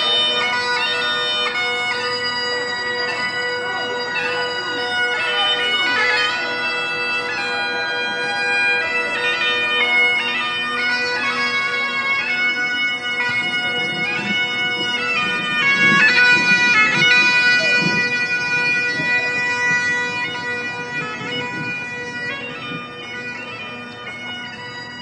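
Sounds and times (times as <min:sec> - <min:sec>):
bagpipes playing a tune: 0:00.0 - 0:25.0.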